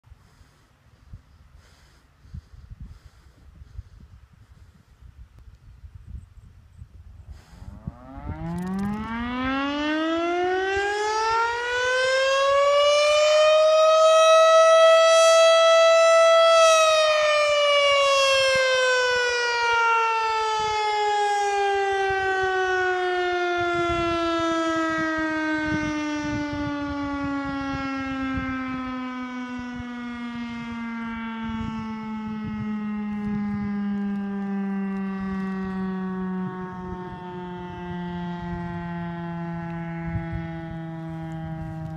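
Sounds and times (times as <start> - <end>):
wind buffeting microphone: 0.1 - 41.9
mechanical fire siren winding: 7.9 - 41.9.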